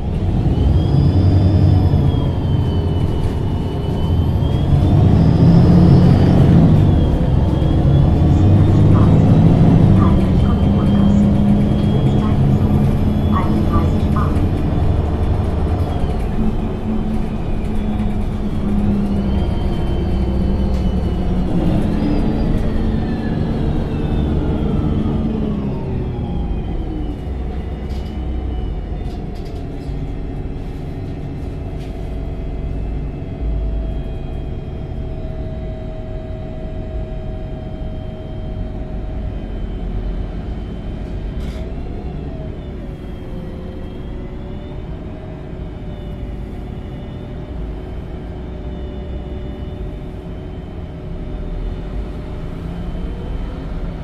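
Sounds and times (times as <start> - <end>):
bus engine rumbling with whine: 0.0 - 54.0.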